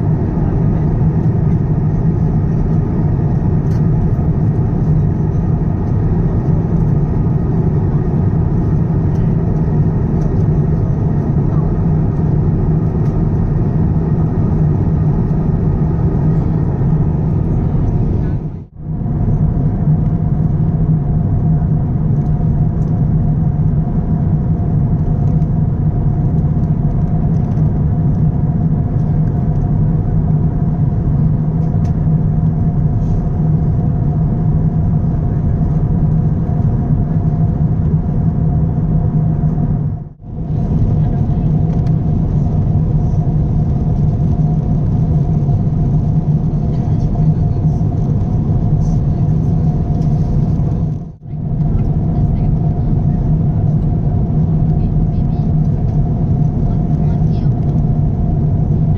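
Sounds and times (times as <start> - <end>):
airliner cabin rumble: 0.0 - 58.9.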